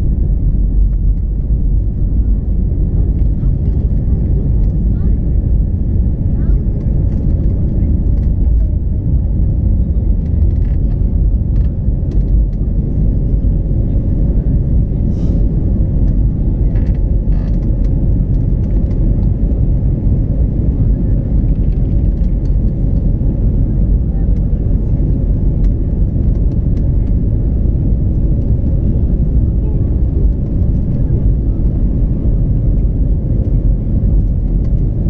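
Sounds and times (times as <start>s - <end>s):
jet engine and airflow rumble in cabin: 0.0s - 35.0s.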